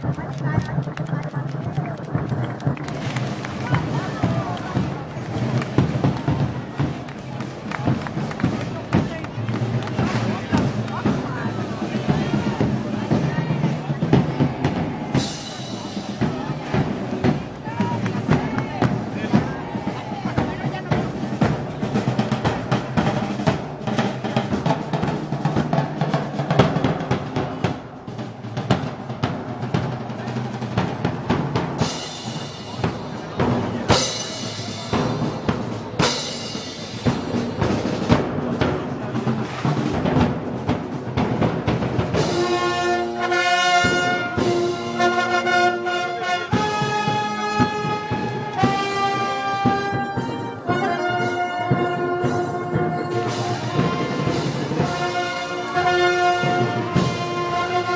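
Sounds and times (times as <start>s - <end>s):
brass band playing march: 0.0s - 57.9s
snare drums rolling: 0.0s - 57.9s.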